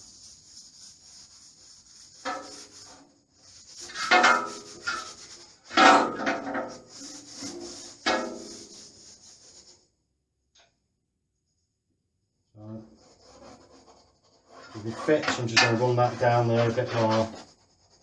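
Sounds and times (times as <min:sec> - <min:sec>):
tool scraping a wall: 0:00.0 - 0:09.8, 0:12.7 - 0:18.0.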